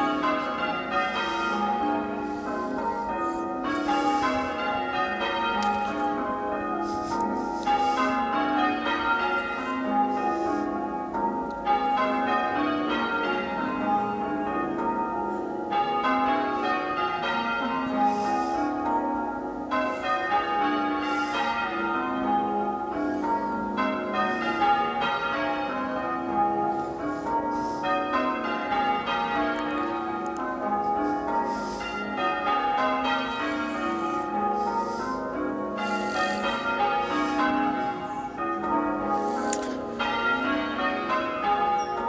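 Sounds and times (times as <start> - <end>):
church bells change ringing: 0.0 - 42.0.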